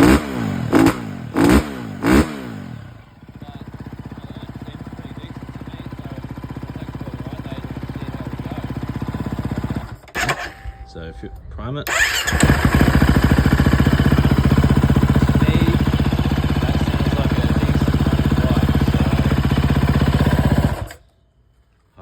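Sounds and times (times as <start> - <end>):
motorcycle engine idling: 0.0 - 11.1, 11.9 - 21.2.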